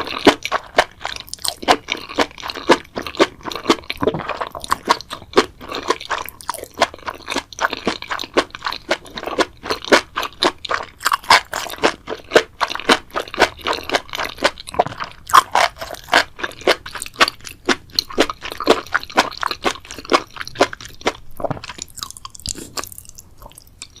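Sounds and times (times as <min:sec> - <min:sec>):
seaweed crunching while chewed: 0:00.0 - 0:24.0.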